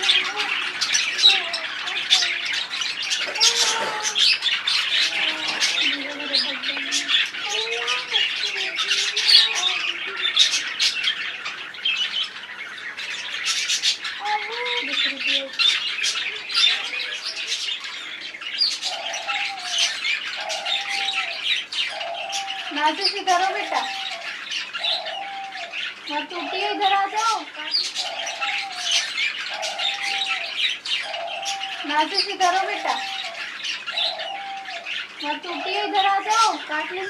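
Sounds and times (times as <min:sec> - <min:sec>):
birds chirping and squawking: 0:00.0 - 0:37.0.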